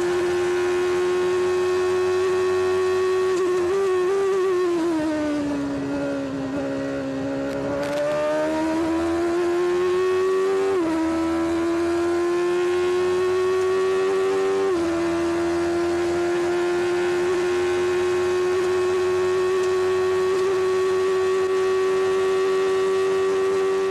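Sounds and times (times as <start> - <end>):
racing car engine revving: 0.0 - 23.9.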